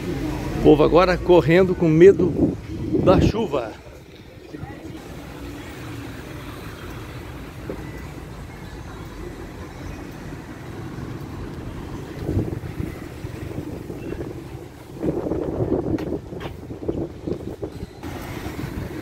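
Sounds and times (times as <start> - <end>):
low rumble of cars: 0.0 - 19.0.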